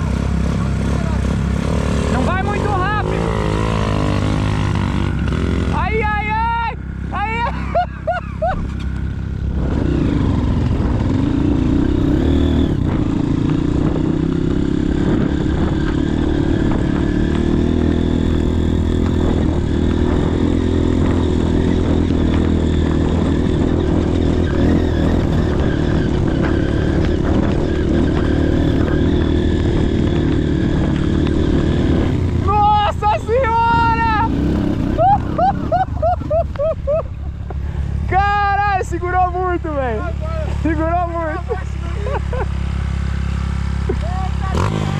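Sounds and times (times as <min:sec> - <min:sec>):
motorcycle engine at high revs: 0:00.0 - 0:44.9.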